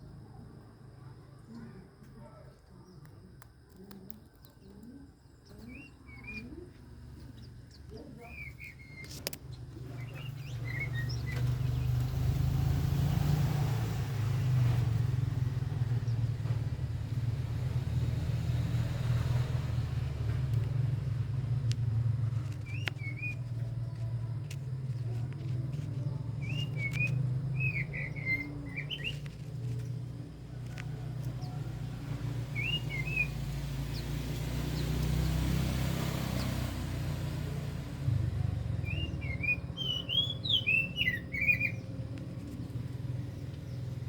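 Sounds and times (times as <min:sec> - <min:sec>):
low engine hum: 0:00.0 - 0:44.0
bird chirps: 0:03.8 - 0:16.8, 0:20.6 - 0:37.6, 0:38.3 - 0:44.0.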